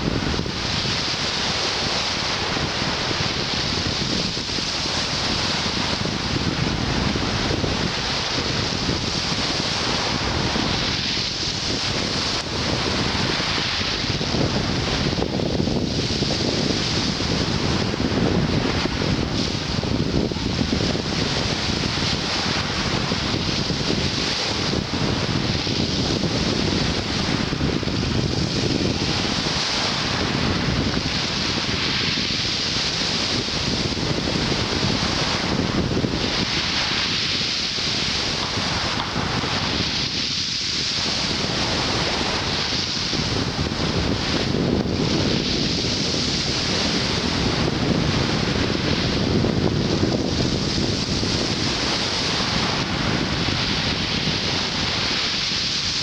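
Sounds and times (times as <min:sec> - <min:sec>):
surf washing on shore: 0:00.0 - 0:56.0
wind rumbling on microphone: 0:00.0 - 0:56.0.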